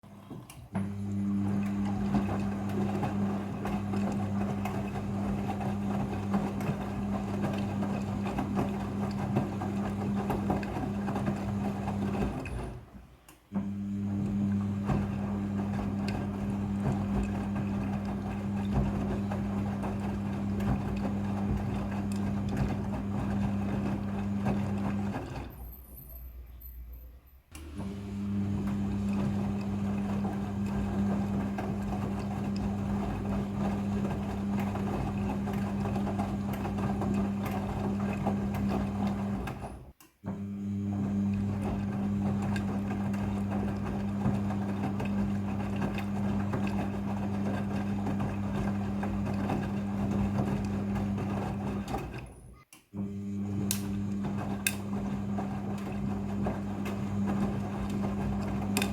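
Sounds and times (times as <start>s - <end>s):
washing machine motor humming: 0.0s - 58.9s.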